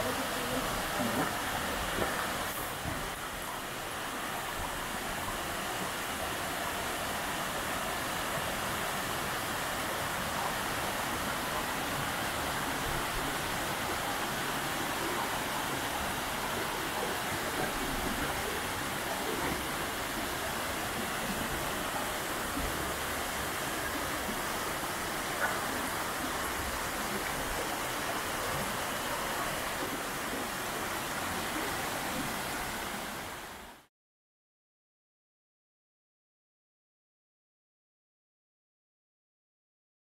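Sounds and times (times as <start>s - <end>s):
waterfall rushing into pool: 0.0s - 33.9s.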